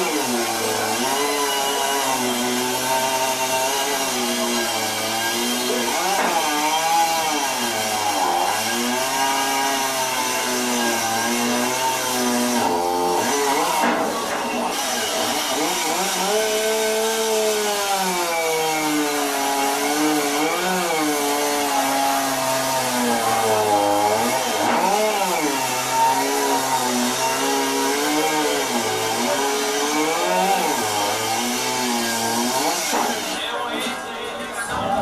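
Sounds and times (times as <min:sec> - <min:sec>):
chainsaw cutting under load: 0:00.0 - 0:33.6.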